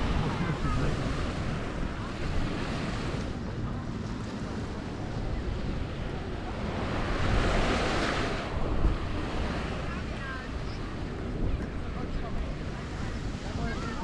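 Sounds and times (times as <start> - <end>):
waves washing onto beach: 0.0 - 14.0
wind rumbling on microphone: 0.0 - 14.0.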